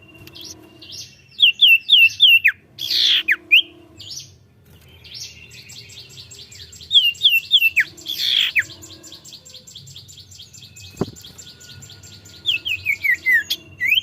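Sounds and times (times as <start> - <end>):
bird chattering trill: 0.0 - 4.4, 5.1 - 14.0.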